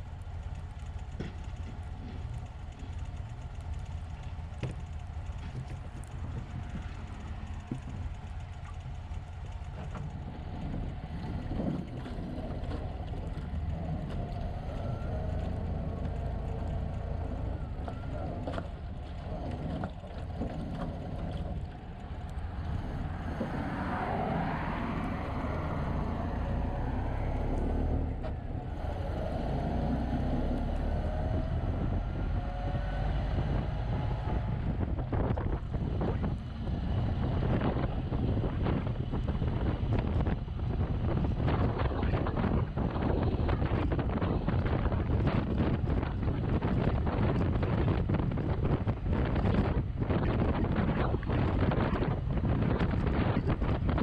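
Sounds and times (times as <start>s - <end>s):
drivetrain whine: 0.0s - 54.0s
old truck engine pulling: 0.0s - 54.0s
wind noise on microphone: 0.9s - 54.0s.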